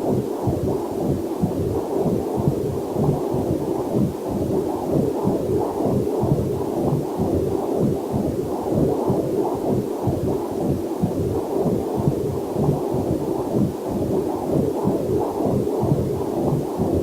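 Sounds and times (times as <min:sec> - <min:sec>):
doppler heartbeat whooshing pulses: 0:00.0 - 0:17.0.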